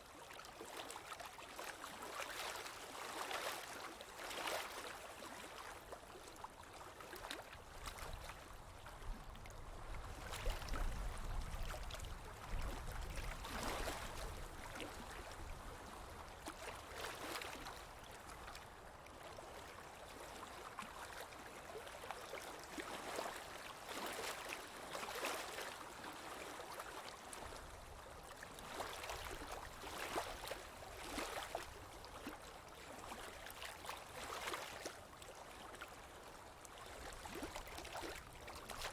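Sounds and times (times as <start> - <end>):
stream water splashing: 0.0 - 38.9.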